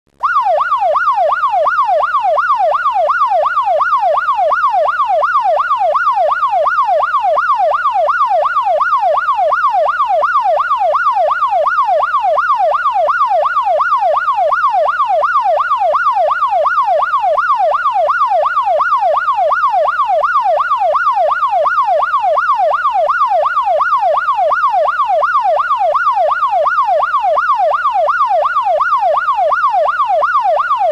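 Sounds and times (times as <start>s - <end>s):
police siren yelp: 0.2s - 30.9s.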